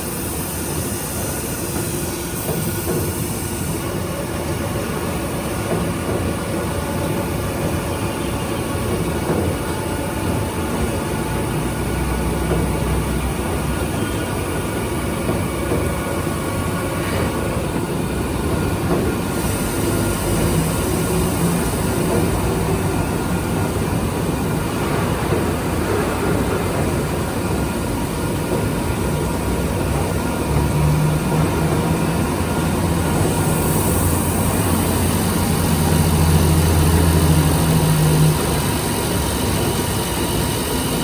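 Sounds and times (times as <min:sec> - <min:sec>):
milling machine running: 0:00.0 - 0:41.0.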